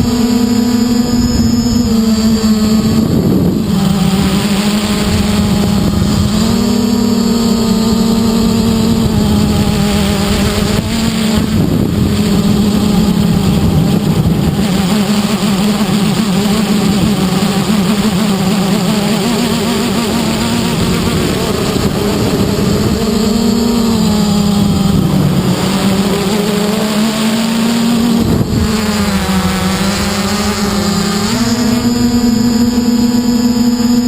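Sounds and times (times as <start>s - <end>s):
quadcopter motors whining: 0.0s - 34.0s
wind buffeting microphone: 0.0s - 34.0s.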